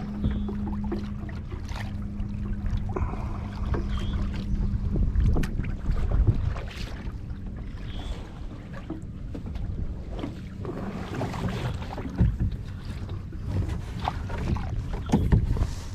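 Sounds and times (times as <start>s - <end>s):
paddle splashing in water: 0.0s - 15.9s
steady low hum: 0.0s - 15.9s
wind on microphone: 0.0s - 15.9s.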